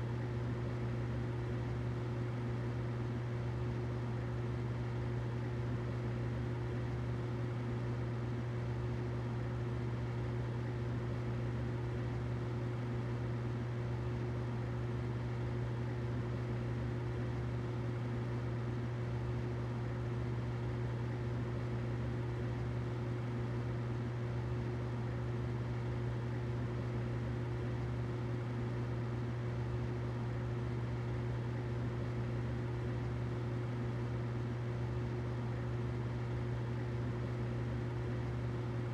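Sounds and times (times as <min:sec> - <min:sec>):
humidifier humming: 0:00.0 - 0:38.9.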